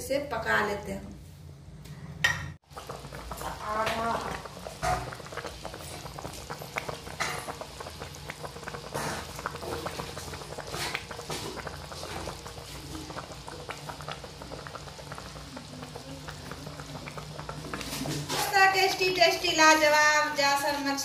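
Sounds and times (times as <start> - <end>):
curry bubbling and popping: 2.2 - 21.0.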